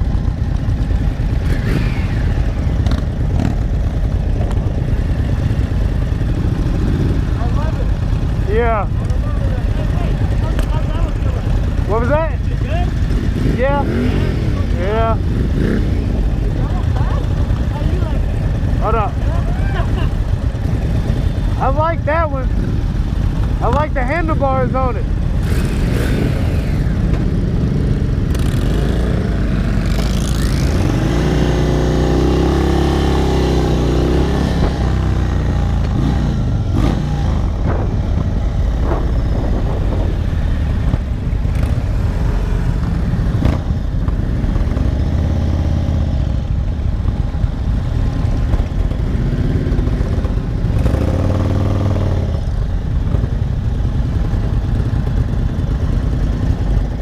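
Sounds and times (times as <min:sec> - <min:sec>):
group of motorcycles rumbling: 0:00.0 - 0:57.0
motorcycle engine running: 0:00.0 - 0:57.0.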